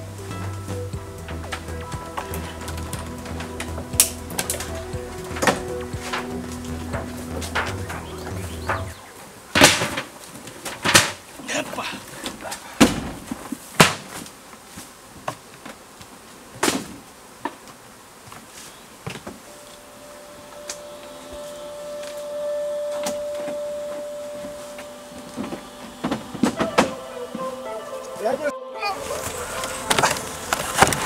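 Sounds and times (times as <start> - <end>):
bees buzzing: 0.0 - 31.0.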